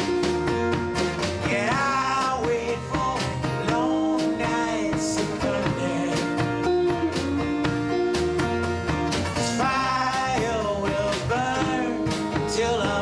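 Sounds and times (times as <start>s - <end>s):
rock song with guitars: 0.0s - 13.0s
sliding lead melody: 0.0s - 13.0s
steady drum beat: 0.0s - 13.0s.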